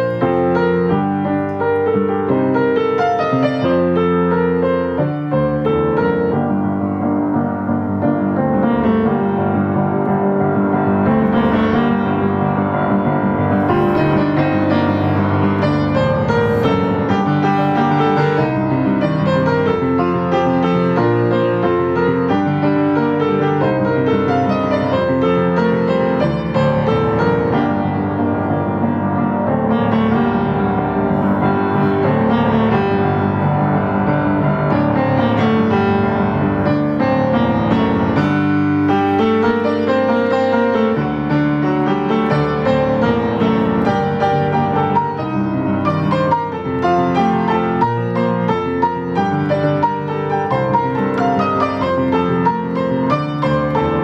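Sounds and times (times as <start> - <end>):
solo piano playing cheering song: 0.0 - 54.0.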